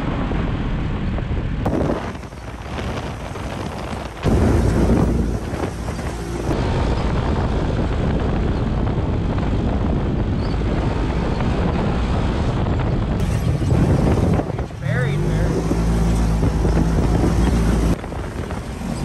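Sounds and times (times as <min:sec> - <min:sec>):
utv engine under throttle: 0:00.0 - 0:19.0
wind buffeting microphone: 0:00.0 - 0:19.0.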